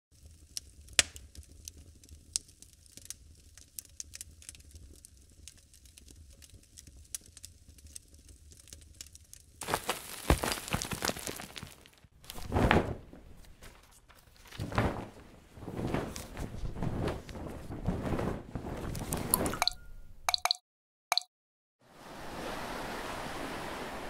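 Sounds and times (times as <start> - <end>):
dense crackling rustle: 0.2 - 19.4.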